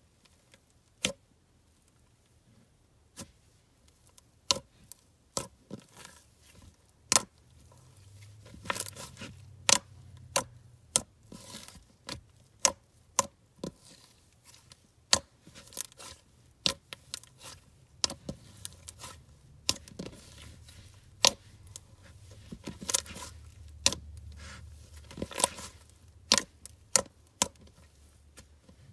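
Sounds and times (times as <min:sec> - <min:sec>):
slime squishing: 0:03.1 - 0:28.9.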